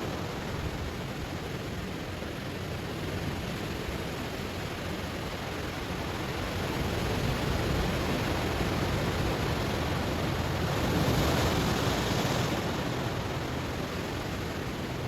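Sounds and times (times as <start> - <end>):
waves on a stony shore: 0.0 - 15.0.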